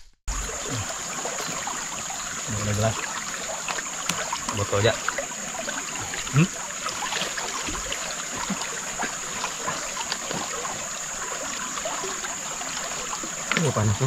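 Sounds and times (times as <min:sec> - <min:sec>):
stream trickling: 0:00.3 - 0:14.0.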